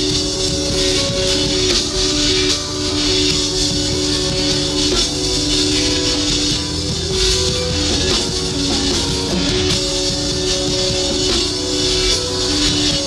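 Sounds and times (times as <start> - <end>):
drum kit: 0.0 - 13.0
guitar holding notes: 0.0 - 13.0.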